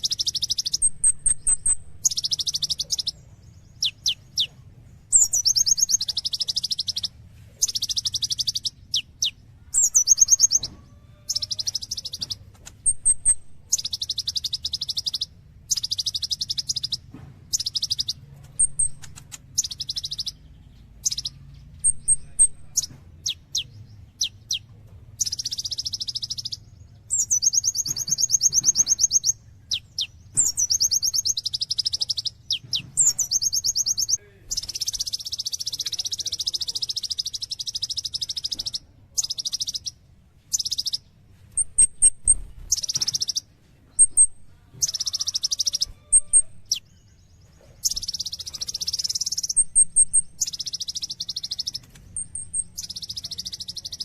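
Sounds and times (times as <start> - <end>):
sunbird singing buzzy trills: 0.0 - 54.0.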